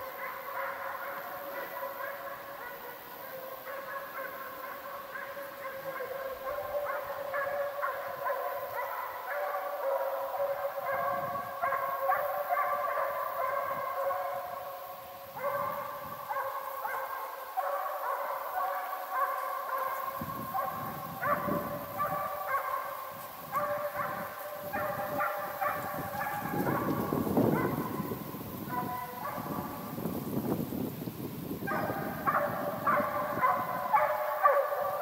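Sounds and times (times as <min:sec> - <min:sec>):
hounds baying: 0:00.0 - 0:30.0, 0:31.7 - 0:35.0.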